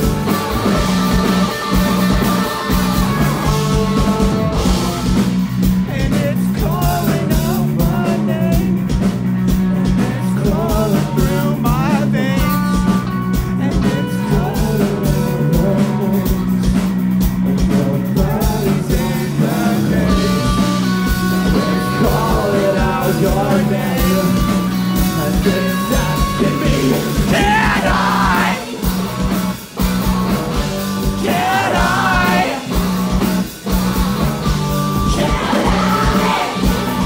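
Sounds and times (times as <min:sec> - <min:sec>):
rock band playing live: 0:00.0 - 0:37.0
lead voice singing: 0:02.1 - 0:16.8, 0:17.4 - 0:29.0, 0:31.0 - 0:33.0, 0:34.9 - 0:37.0.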